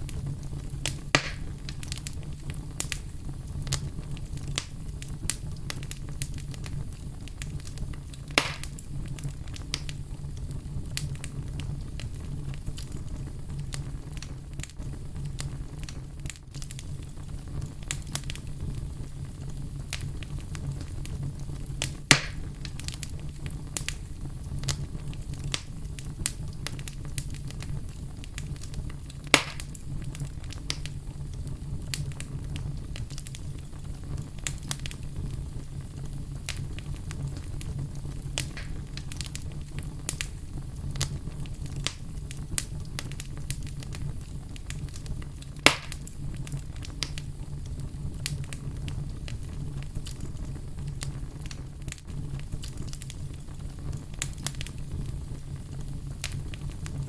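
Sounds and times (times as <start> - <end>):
fire burning with crackles: 0.0 - 57.0
sharp pops from fire: 0.0 - 57.0.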